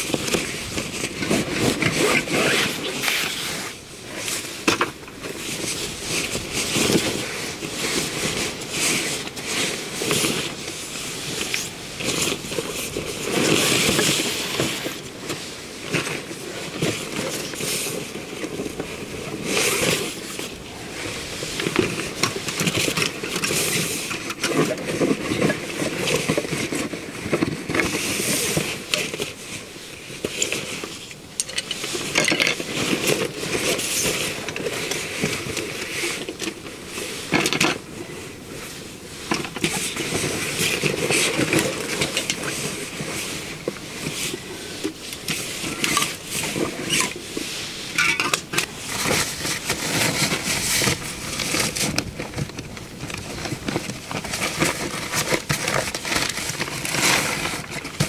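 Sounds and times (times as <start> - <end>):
nylon bags rustling and scraping: 0.0 - 58.0.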